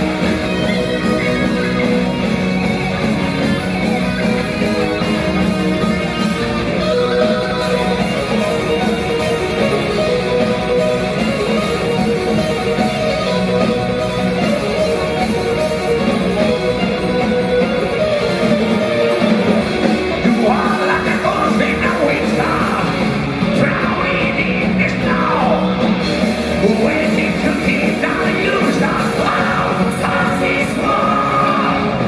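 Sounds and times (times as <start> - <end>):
heavy metal band playing live: 0.0 - 32.0.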